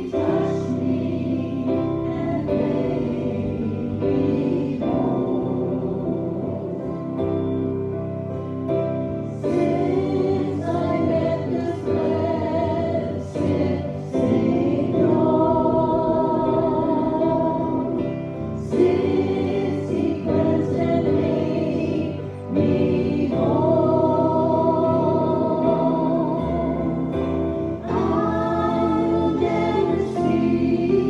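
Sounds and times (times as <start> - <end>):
group singing a hymn: 0.0 - 31.0.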